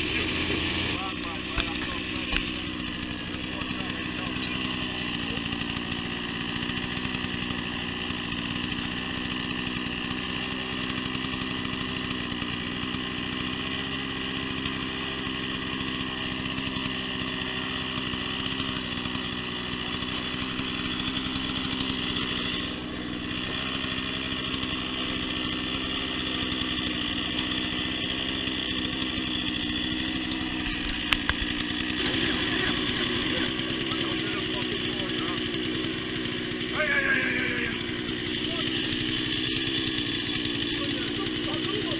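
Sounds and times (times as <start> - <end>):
small engine running: 0.0 - 41.9.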